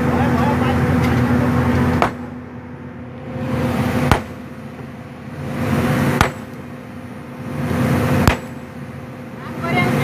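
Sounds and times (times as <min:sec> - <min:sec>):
excavator engine humming: 0:00.0 - 0:10.0.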